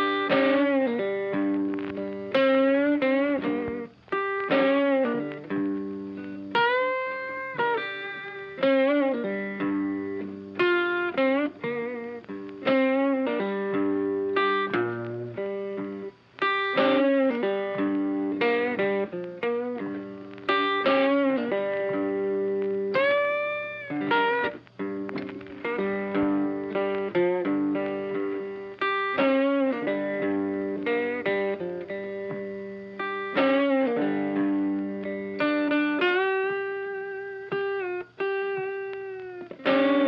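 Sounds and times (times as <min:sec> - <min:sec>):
plucked guitar instrumental: 0:00.0 - 0:40.0.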